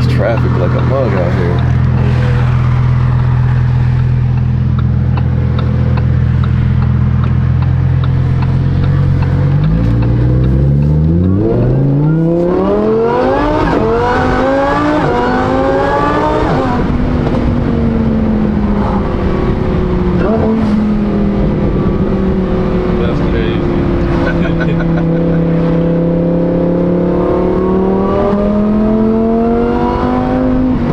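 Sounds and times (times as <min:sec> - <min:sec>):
sports car engine revving: 0:00.0 - 0:30.9.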